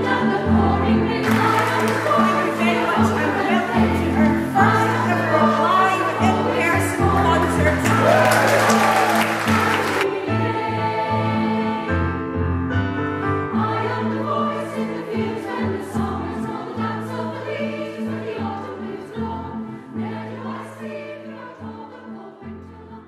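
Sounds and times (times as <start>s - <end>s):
women's choir singing: 0.0s - 12.5s, 13.4s - 23.0s
piano and bass accompaniment: 0.0s - 20.6s.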